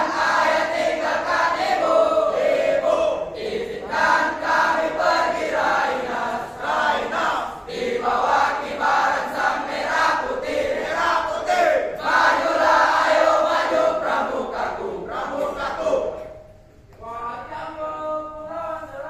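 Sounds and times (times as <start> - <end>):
group chanting in unison: 0.0 - 16.5.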